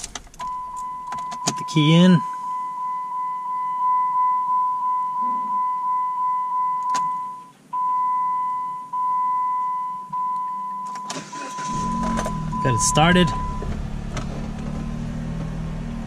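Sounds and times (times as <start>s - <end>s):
car warning chime: 0.4s - 14.0s.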